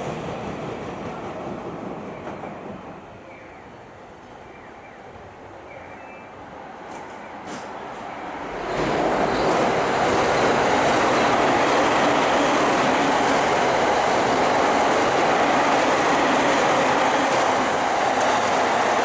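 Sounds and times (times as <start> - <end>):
train wheels rumbling on rail: 0.0 - 3.2, 6.8 - 19.0.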